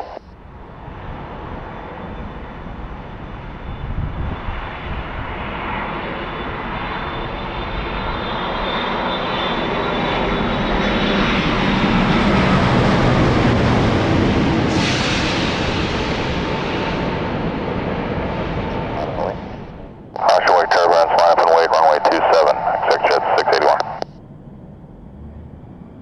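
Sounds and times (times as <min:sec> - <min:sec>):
jet engines with fan whine: 0:00.0 - 0:26.0.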